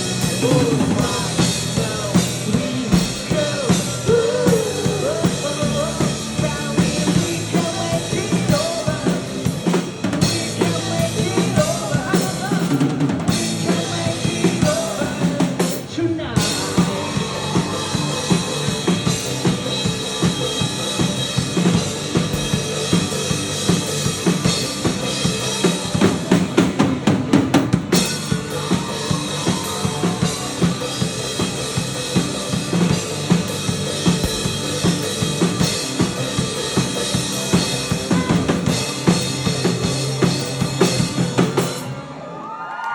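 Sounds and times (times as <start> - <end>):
drum kit: 0.0 - 42.2
rock band playing: 0.0 - 42.6.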